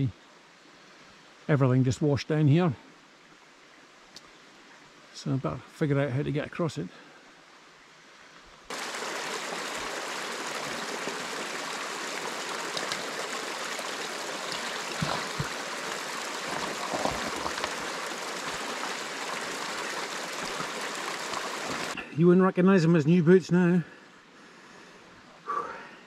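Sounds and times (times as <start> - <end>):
stream running over rocks: 0.0 - 23.3.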